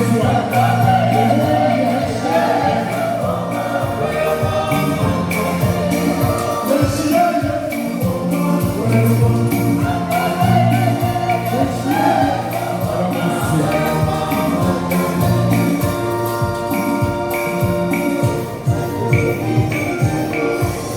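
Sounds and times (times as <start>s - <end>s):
choir singing gospel music: 0.0s - 20.9s
instrumental accompaniment: 0.0s - 20.9s
steady percussion beat: 0.0s - 20.9s.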